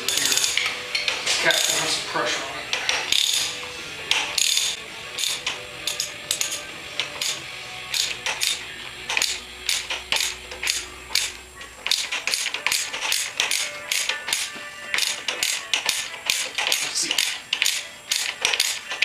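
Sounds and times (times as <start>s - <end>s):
ratchet wrench clicking: 0.0s - 2.0s, 2.7s - 19.0s.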